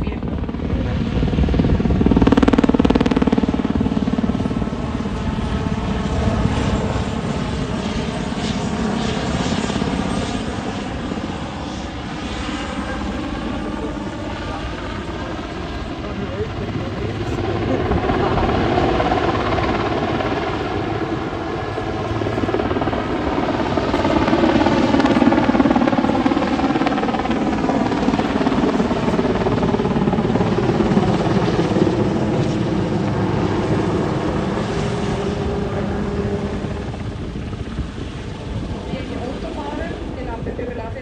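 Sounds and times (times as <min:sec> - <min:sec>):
helicopter rotor and turbine noise: 0:00.0 - 0:41.0.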